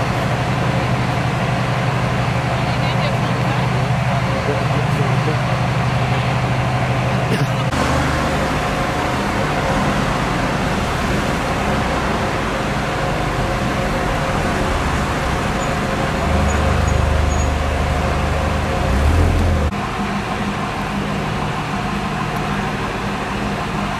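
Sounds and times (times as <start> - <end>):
street noise: 0.0 - 23.9
vehicle engine running: 0.0 - 23.9.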